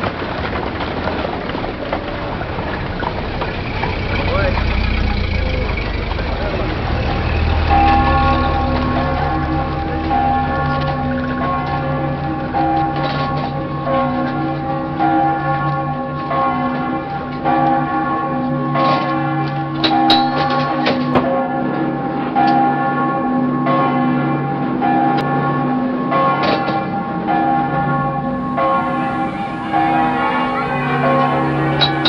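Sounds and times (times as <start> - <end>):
bells ringing: 3.2 - 32.0.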